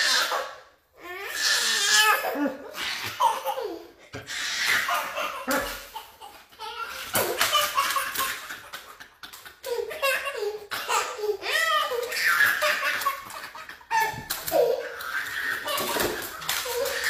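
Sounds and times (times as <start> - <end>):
toddler laughing: 1.5 - 17.0.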